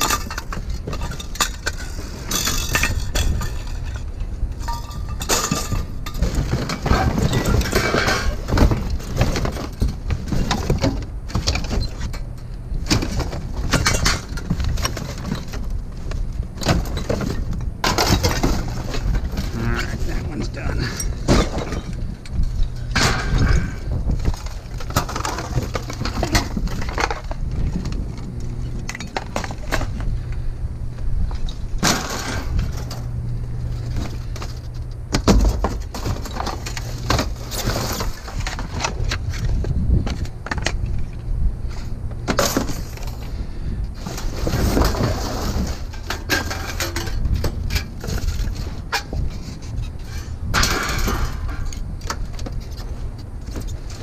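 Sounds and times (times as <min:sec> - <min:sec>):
scrap clattering in a dumpster: 0:00.0 - 0:54.0
steady low hum: 0:00.0 - 0:54.0.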